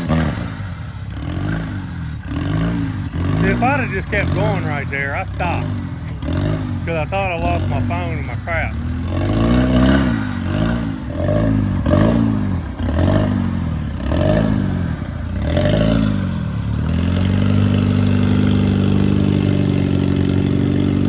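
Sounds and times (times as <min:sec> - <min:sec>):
off-road engine revving: 0:00.0 - 0:21.0.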